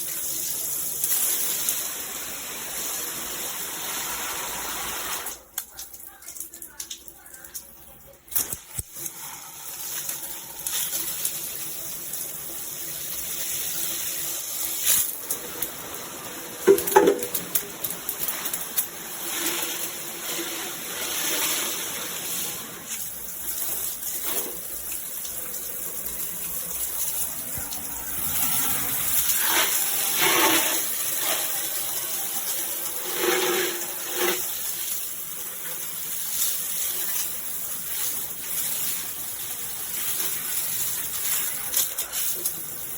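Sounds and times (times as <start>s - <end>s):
shower head spraying water: 0.0s - 42.9s.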